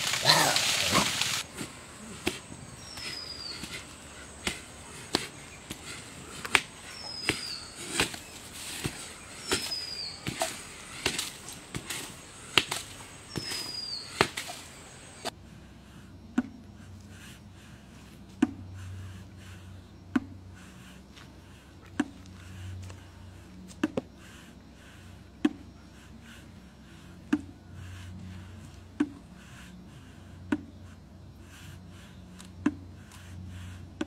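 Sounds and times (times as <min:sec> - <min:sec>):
quiet hum: 0:00.0 - 0:34.0.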